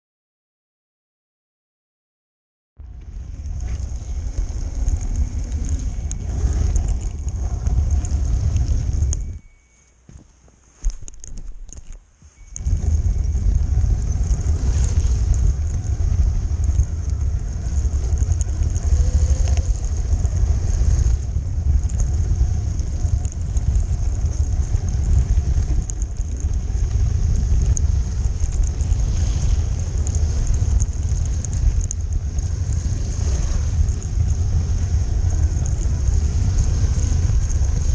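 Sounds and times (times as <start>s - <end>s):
high motor whine: 2.8s - 10.3s, 12.3s - 37.9s.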